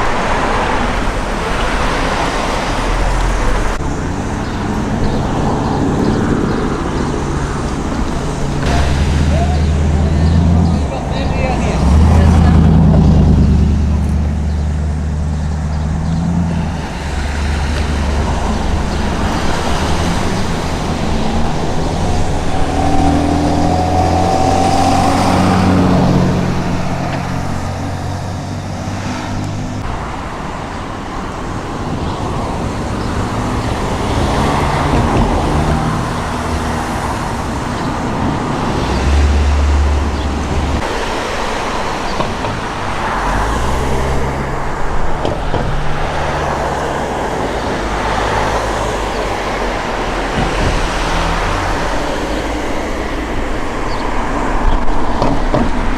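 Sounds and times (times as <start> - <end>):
cars passing: 0.0 - 55.9.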